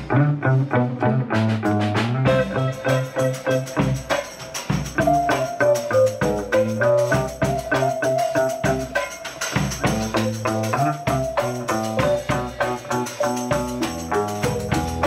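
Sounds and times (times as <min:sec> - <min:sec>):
electric bass: 0:00.0 - 0:09.0, 0:09.6 - 0:15.0
electric guitar melody: 0:00.0 - 0:15.0
drum kit steady beat: 0:01.3 - 0:15.0.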